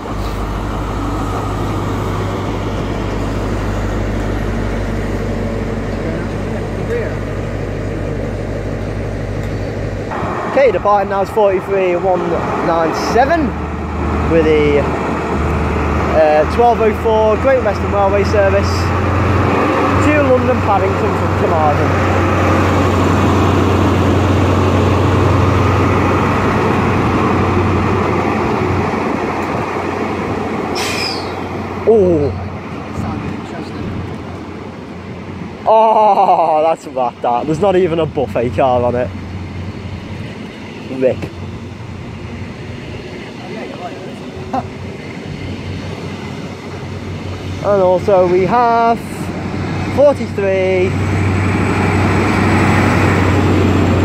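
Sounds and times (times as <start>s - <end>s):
train diesel engine humming: 0.0s - 54.0s.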